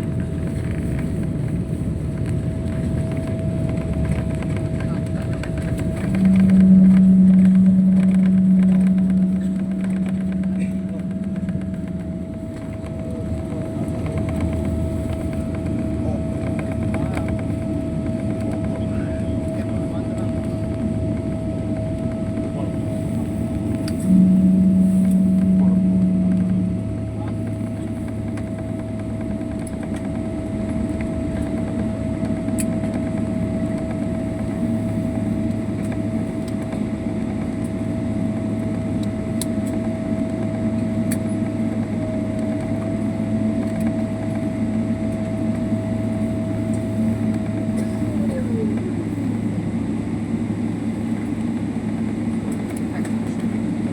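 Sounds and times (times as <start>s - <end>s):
airliner cabin rumble: 0.0s - 53.9s
engine whine: 0.0s - 53.9s
loud low hum: 0.0s - 53.9s.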